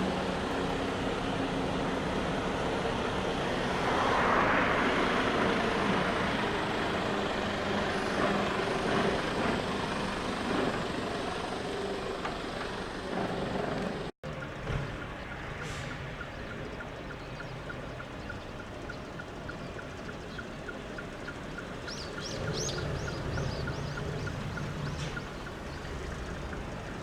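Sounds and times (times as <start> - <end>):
diesel trucks driving past: 0.0 - 27.0.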